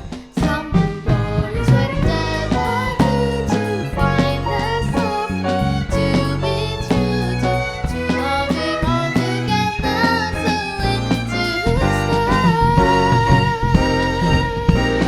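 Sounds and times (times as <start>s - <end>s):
jazz waltz ensemble: 0.0s - 15.0s.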